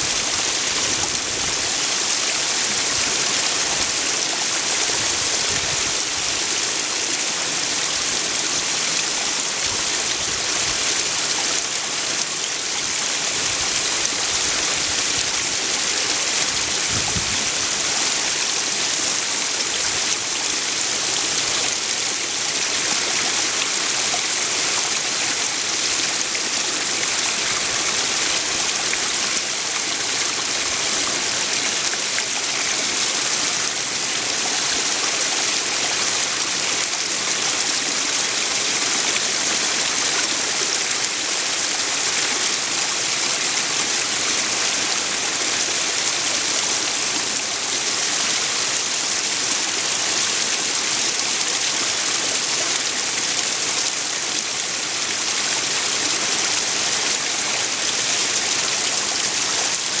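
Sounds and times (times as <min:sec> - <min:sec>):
waterfall splashing over rocks: 0:00.0 - 1:00.0.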